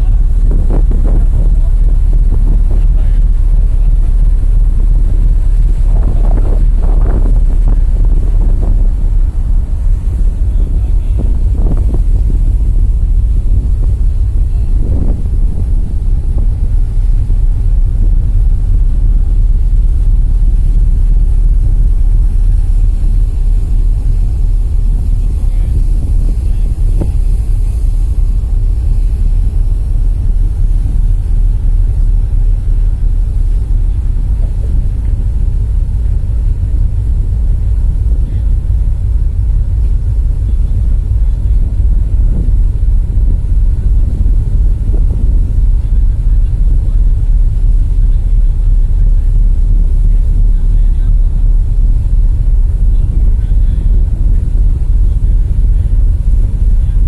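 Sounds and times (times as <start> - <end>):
ship engine rumble: 0.0 - 57.0
wind buffeting microphone: 0.0 - 57.0.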